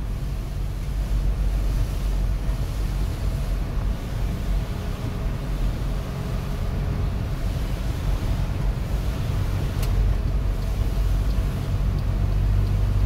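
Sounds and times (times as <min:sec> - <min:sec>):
engine and road rumble: 0:00.0 - 0:13.0
tyre hiss on wet road: 0:00.0 - 0:13.0.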